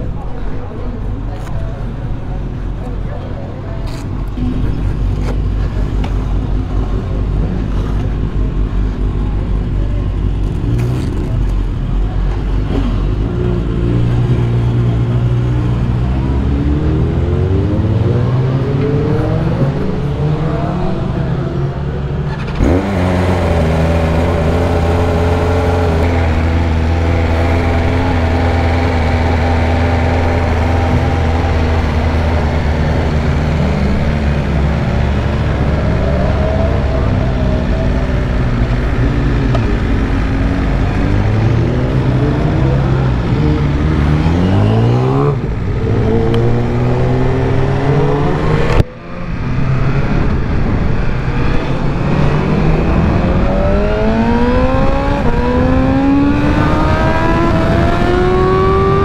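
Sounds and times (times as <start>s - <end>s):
motorcycle engine revving: 10.2s - 59.0s.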